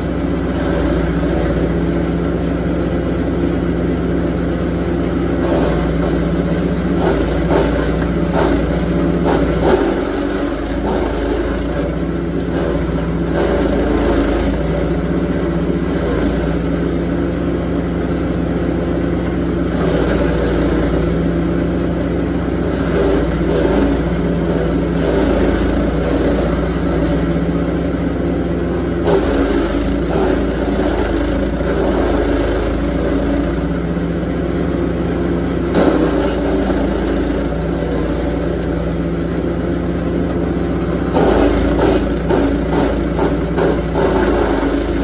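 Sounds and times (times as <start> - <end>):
petrol engine running: 0.0 - 45.0.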